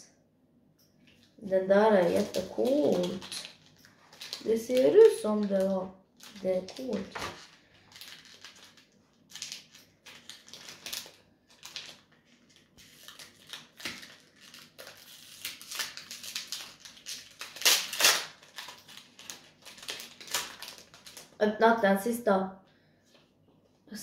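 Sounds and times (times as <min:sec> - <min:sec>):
foil wrapper crinkling and tearing: 0:01.1 - 0:21.4.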